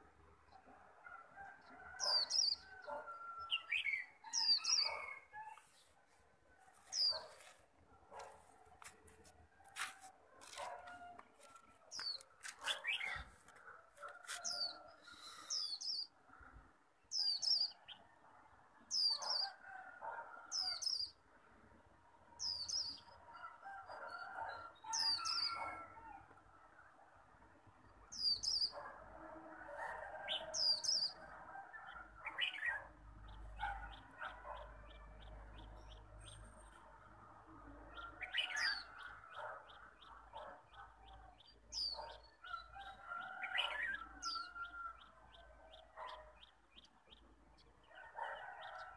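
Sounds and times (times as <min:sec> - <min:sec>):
soft bird chatter: 0:00.1 - 0:21.6, 0:27.9 - 0:48.9.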